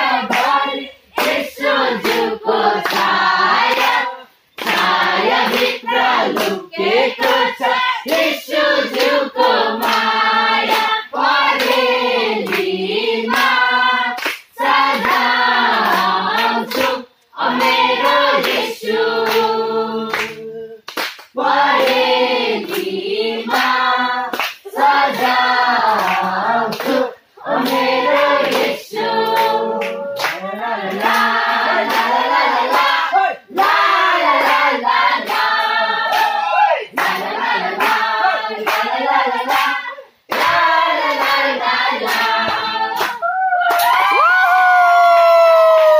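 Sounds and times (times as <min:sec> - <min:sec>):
women singing together: 0:00.0 - 0:44.2
hand clapping: 0:00.2 - 0:06.6, 0:07.2 - 0:12.7, 0:13.3 - 0:19.5, 0:20.1 - 0:22.9, 0:23.5 - 0:44.3.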